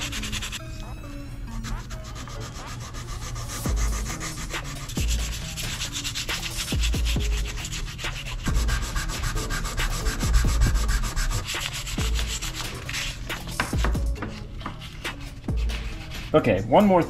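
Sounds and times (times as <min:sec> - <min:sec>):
sandpaper rubbing on plastic: 0:00.0 - 0:00.6, 0:01.5 - 0:17.0.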